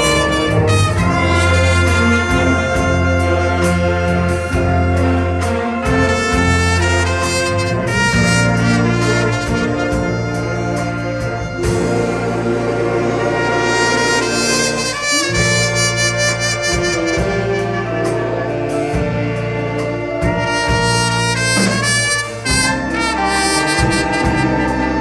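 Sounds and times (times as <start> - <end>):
percussion strikes: 0.0 - 25.0
wind orchestra playing a hymn: 0.0 - 25.0.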